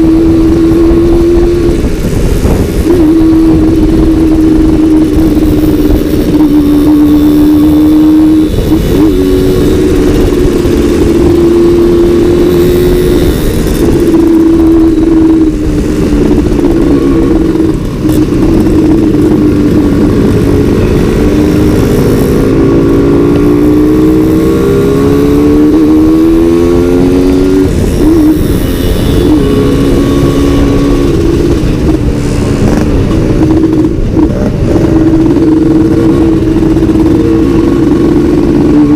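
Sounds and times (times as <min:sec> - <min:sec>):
two-stroke motorcycle engines: 0:00.0 - 0:38.9.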